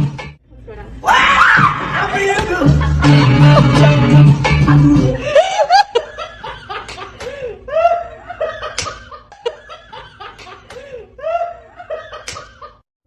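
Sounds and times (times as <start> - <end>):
high-pitched laughing: 1.5 - 12.8.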